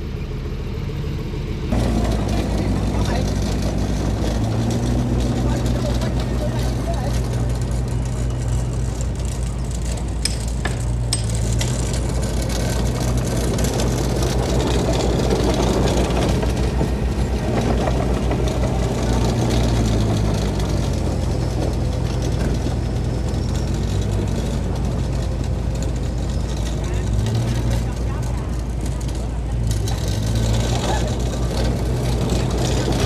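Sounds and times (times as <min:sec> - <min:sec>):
diesel machinery engine running: 0:00.0 - 0:33.0.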